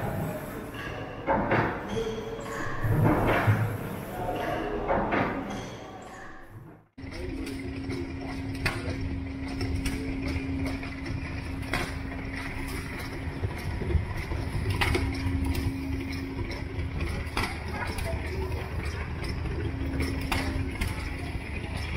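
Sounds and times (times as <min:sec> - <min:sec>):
mechanical hum with held tone: 0:00.0 - 0:21.9.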